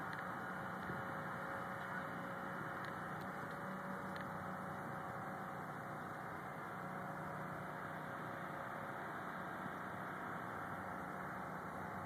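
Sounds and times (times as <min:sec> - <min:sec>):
crane engine humming: 0:00.0 - 0:12.0
faint steady tones: 0:00.0 - 0:12.0.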